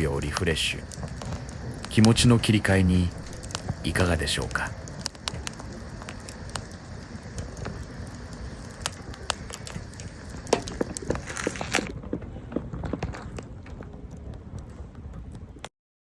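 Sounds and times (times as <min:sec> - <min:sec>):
campfire crackling and popping: 0:00.0 - 0:15.7
low rumble of flames: 0:00.0 - 0:15.7.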